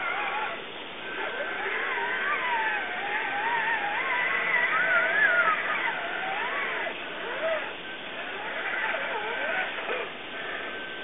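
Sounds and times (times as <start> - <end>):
electric motor and gearbox whining: 0.0 - 11.0.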